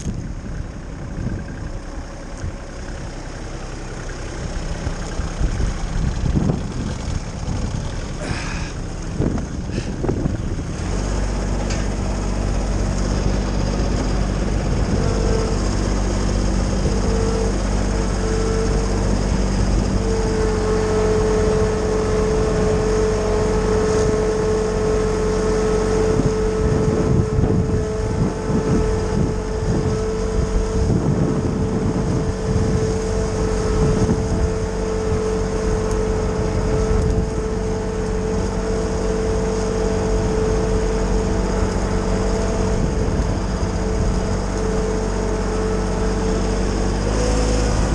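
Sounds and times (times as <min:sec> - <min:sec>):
branches grinding in chipper: 0:00.0 - 0:47.9
tractor engine running: 0:00.0 - 0:47.9
wood chipper whine: 0:00.0 - 0:47.9.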